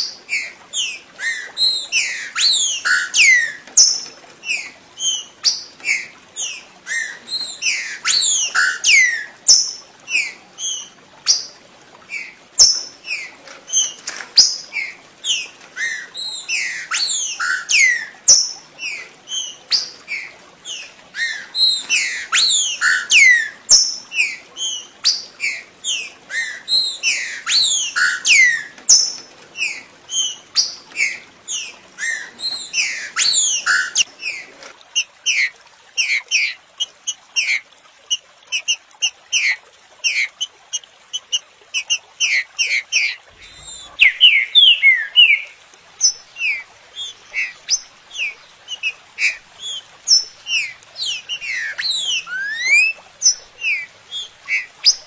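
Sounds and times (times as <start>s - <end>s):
bird whistling song: 0.3s - 11.5s, 12.1s - 34.1s, 41.2s - 55.0s.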